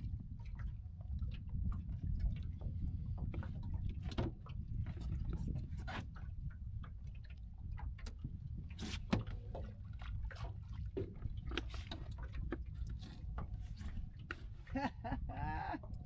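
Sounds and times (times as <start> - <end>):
water lapping against boat: 0.0 - 16.0
wind rumbling on microphone: 0.0 - 16.0.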